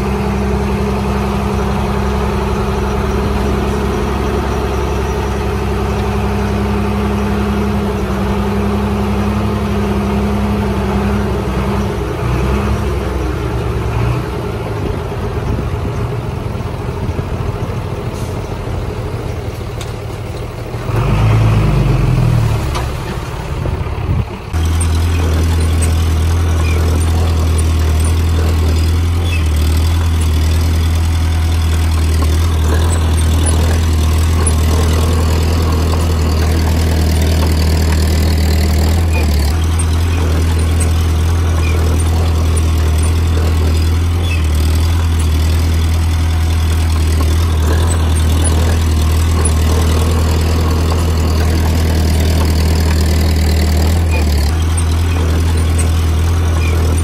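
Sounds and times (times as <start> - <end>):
diesel engines running: 0.0 - 57.0
engine revving: 0.0 - 57.0.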